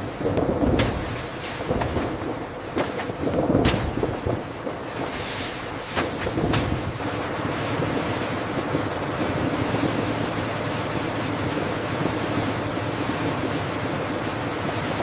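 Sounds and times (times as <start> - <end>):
industrial machinery rushing noise: 0.0 - 15.0.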